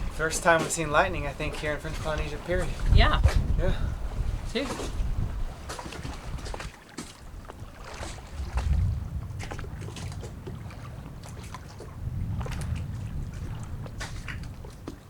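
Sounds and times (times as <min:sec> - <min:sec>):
storm wind gusting: 0:00.0 - 0:15.0.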